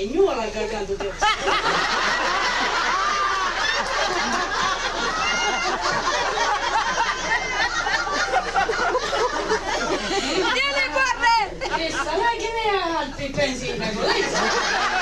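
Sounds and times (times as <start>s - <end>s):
audience laughing: 1.2s - 12.6s, 13.7s - 15.0s.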